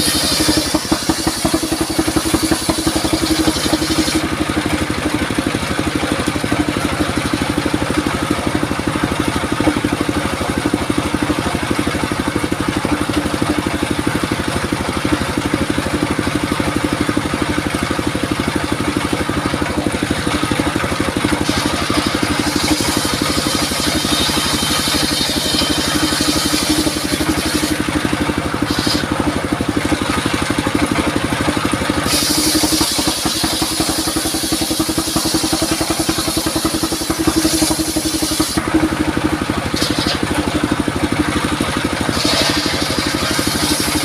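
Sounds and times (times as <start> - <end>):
saw engine running: 0.0 - 44.0.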